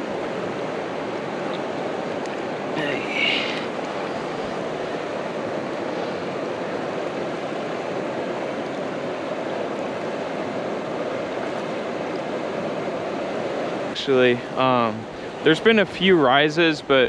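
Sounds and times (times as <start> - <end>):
stream rushing over gravel: 0.0 - 17.0.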